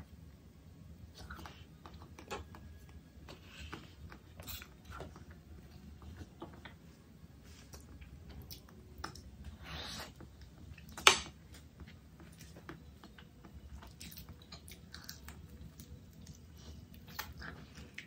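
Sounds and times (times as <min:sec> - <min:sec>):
person chewing food: 0:01.0 - 0:18.0.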